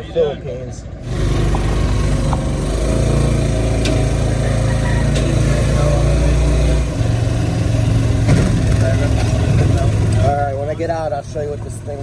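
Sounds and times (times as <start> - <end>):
small motorcycle engine running: 1.0 - 12.0.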